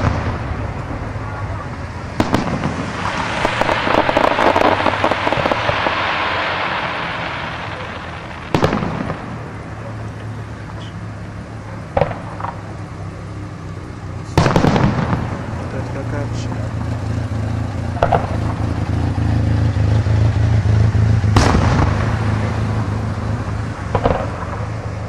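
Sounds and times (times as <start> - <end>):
firework bangs: 0.0 - 13.5, 14.2 - 25.0
firework shell crackling: 0.0 - 25.0.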